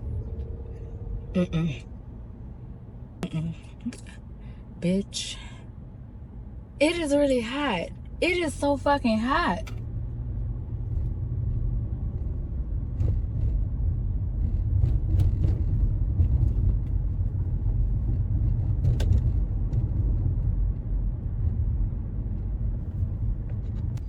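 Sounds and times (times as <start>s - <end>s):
engine and road noise rumble: 0.0s - 24.0s.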